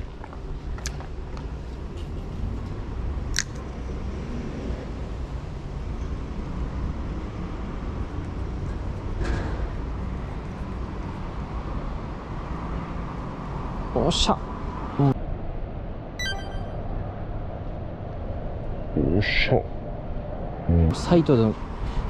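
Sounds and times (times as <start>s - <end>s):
road traffic rumble: 0.0s - 16.2s, 16.8s - 22.0s.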